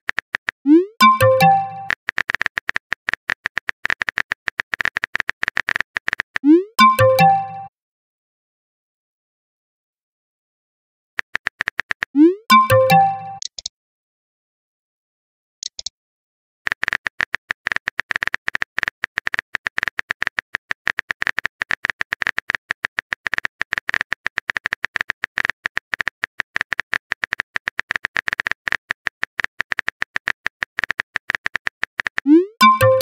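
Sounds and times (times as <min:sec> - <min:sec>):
phone keyboard typing clicks: 0:00.1 - 0:07.7, 0:11.2 - 0:13.7, 0:16.7 - 0:33.0.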